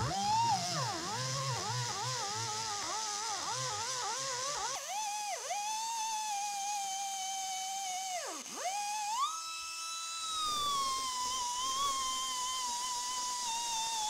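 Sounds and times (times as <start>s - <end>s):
high-speed grinder whining on metal: 0.0s - 14.0s.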